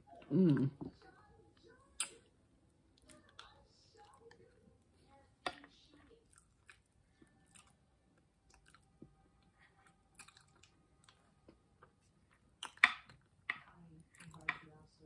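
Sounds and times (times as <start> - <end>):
faint chewing and mouth clicks: 0.1 - 2.3, 2.9 - 14.8.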